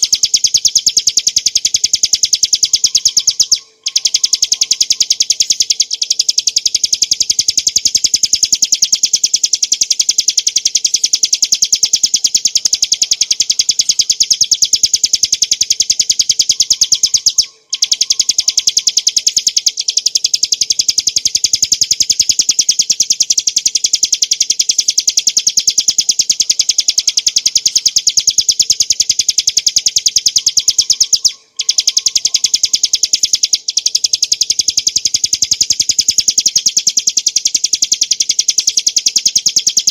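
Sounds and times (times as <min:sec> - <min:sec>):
small bird singing rapid notes: 0:00.0 - 0:39.9.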